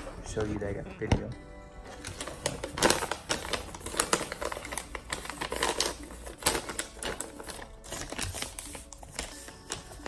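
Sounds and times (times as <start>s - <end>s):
paper rustling and crinkling: 1.9s - 10.0s.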